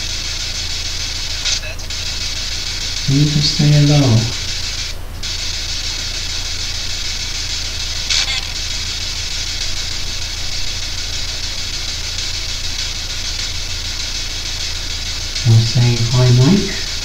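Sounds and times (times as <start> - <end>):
low mains hum: 0.0 - 17.0
radio static hiss: 0.0 - 17.0.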